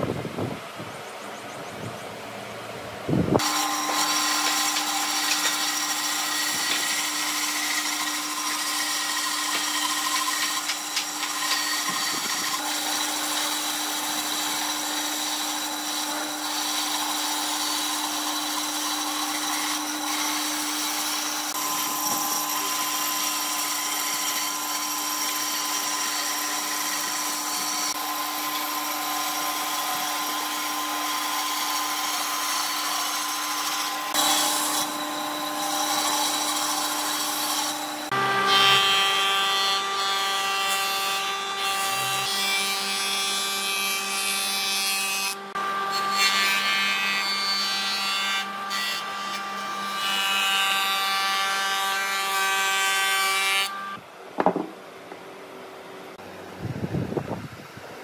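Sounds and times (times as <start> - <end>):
bandsaw cutting wood: 3.4 - 54.0.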